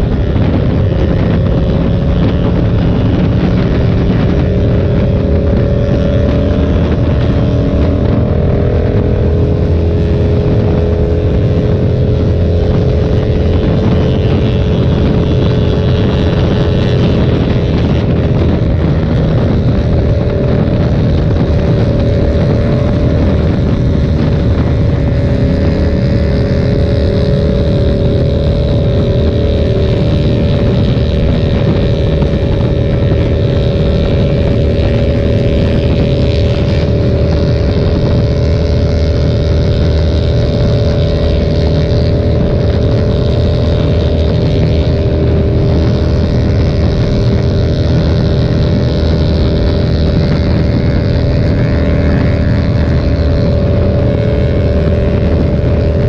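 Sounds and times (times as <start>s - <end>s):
motorcycle engine cruising: 0.0s - 56.0s
wind rushing: 0.0s - 56.0s.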